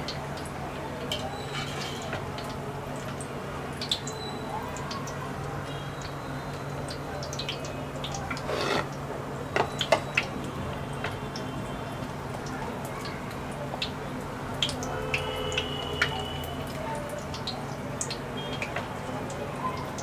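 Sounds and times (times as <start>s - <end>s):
chillies deep-frying in hot oil: 0.0s - 20.0s.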